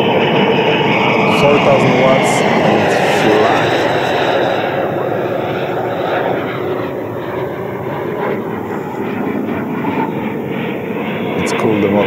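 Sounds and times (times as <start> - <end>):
electric ducted fan jet rushing: 0.0 - 12.0.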